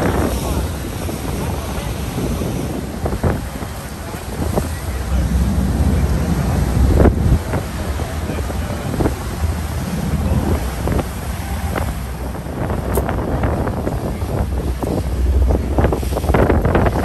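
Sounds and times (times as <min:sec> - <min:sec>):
steady low rumble: 0:00.0 - 0:17.0
wash of the sea: 0:00.0 - 0:17.0
wind buffeting the microphone: 0:00.0 - 0:17.0.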